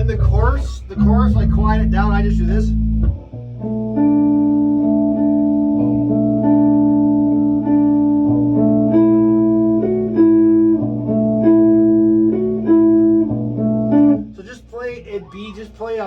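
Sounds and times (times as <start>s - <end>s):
guitar playing: 0.0s - 16.0s.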